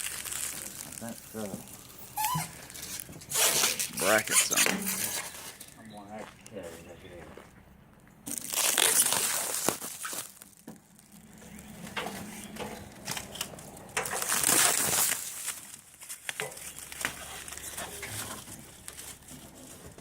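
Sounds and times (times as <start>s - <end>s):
packaging crinkling and tearing: 0.0s - 5.8s, 8.2s - 20.0s.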